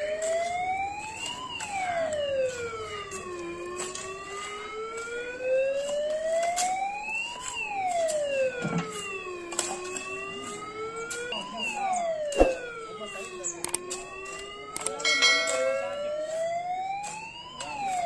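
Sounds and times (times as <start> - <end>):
wailing siren: 0.0 - 18.0.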